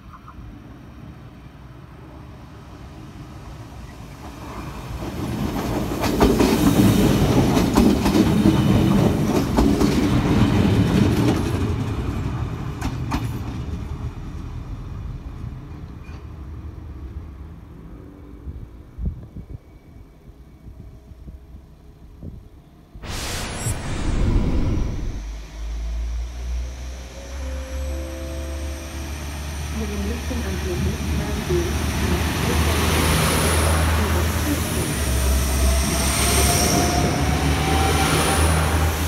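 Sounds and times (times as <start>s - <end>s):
railcar running noise: 0.0s - 39.0s.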